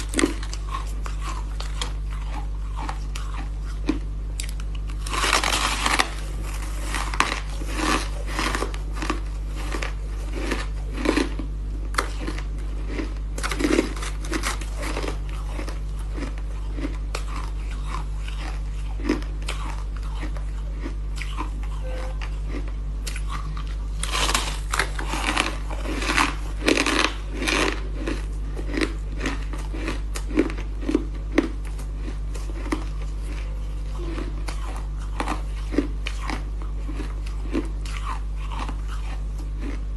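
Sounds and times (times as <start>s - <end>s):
ice being chewed: 0.0s - 39.9s
steady low hum: 0.0s - 39.9s.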